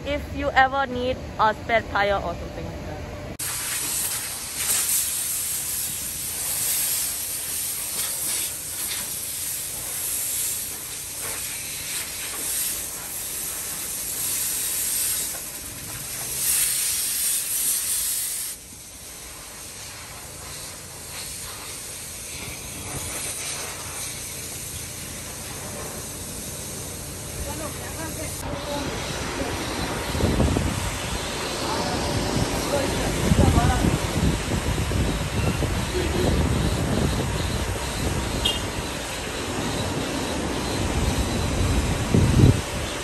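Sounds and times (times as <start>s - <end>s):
steady background noise: 0.0s - 43.0s
vacuum hose hissing: 3.4s - 43.0s.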